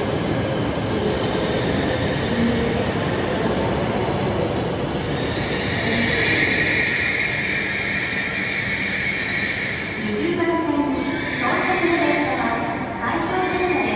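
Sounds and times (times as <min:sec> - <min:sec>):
high-pitched train squeal: 0:00.0 - 0:13.9
train rumbling: 0:00.0 - 0:13.9.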